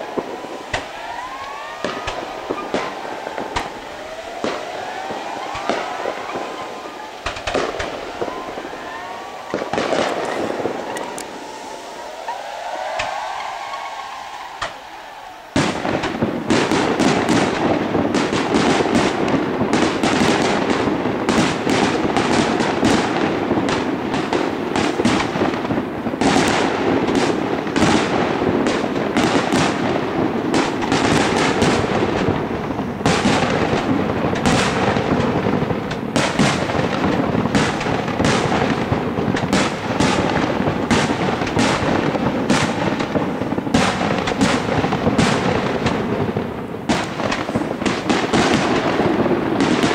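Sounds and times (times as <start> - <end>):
fireworks shells bursting: 0.0 - 49.9.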